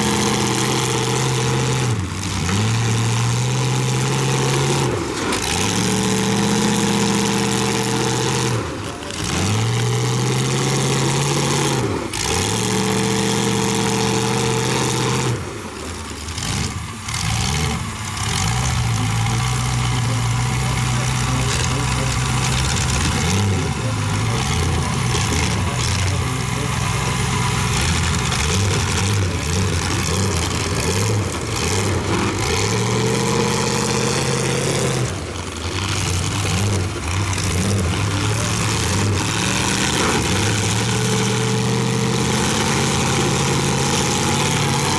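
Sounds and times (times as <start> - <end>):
car engines revving hard: 0.0 - 44.9.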